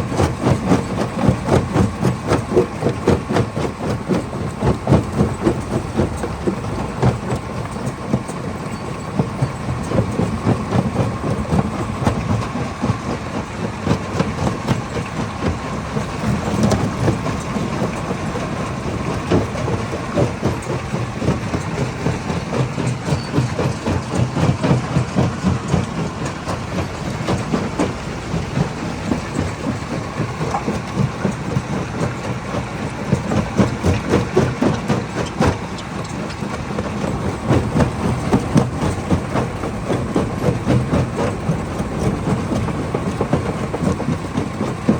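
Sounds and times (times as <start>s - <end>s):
low machine rumble: 0.0s - 44.9s.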